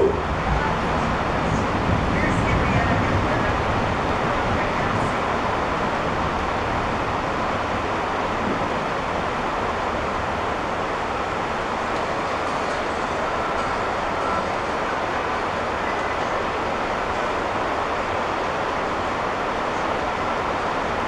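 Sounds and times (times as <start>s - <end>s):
heavy rain on a roof: 0.0s - 21.0s.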